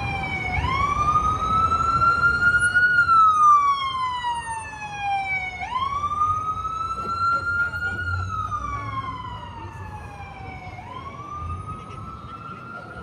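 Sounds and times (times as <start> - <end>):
city traffic noise: 0.0 - 13.0
emergency siren wailing: 0.0 - 13.0.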